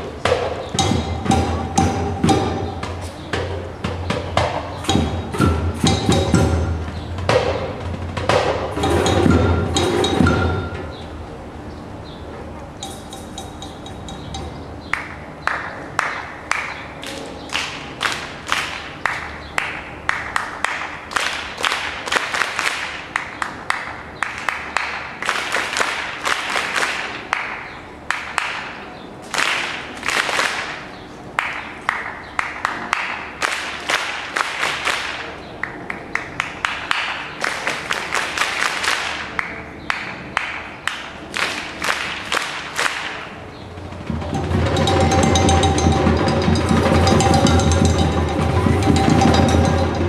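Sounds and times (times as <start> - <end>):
children clapping rhythms: 0.2 - 11.0, 12.8 - 50.0.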